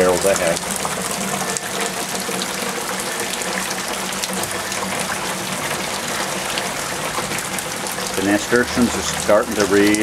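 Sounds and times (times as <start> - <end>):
steady rain falling: 0.0 - 10.0
water gushing off roof: 0.0 - 10.0.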